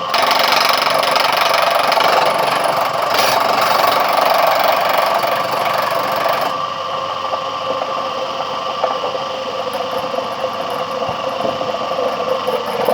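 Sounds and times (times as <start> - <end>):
wood lathe motor humming and rattling: 0.0 - 6.6, 8.8 - 12.9.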